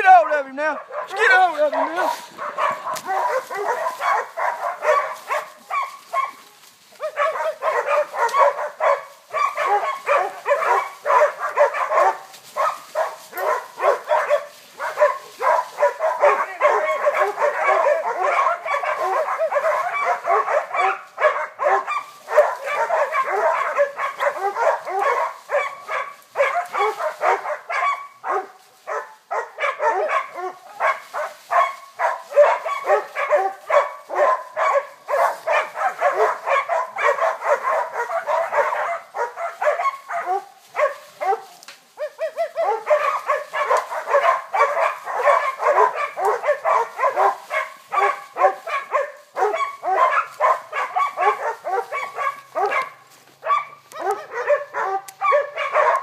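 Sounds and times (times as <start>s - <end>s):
dogs barking: 0.6s - 56.0s.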